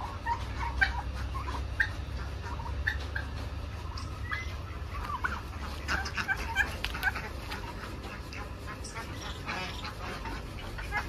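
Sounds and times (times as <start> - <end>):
turkeys calling: 0.0 - 11.0.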